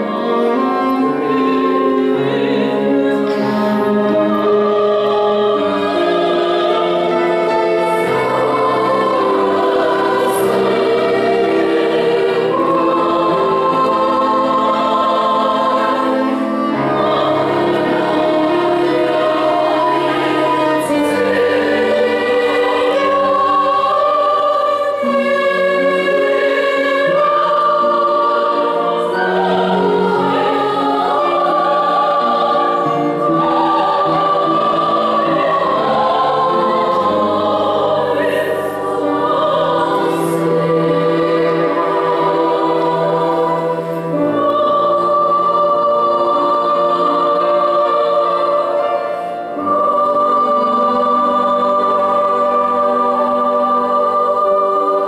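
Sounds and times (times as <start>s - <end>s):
string ensemble with cello: 0.0s - 55.0s.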